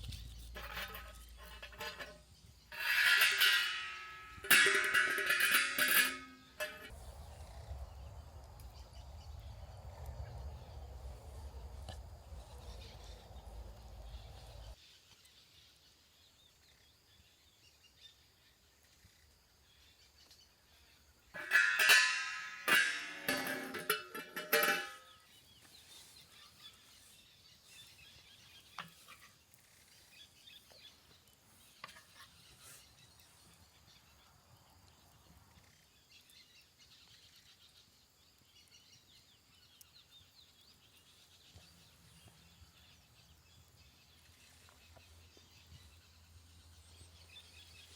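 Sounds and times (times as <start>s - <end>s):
forest ambience: 0.0s - 47.9s.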